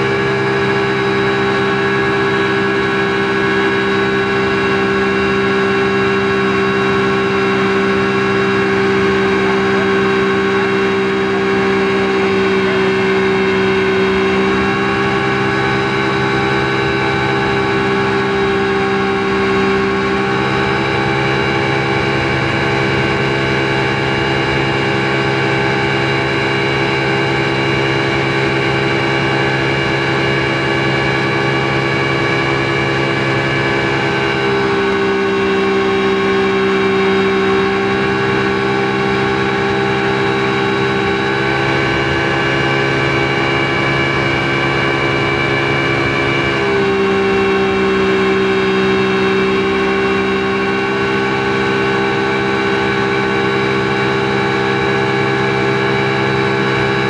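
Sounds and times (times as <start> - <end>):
speedboat engine running: 0.0 - 57.0.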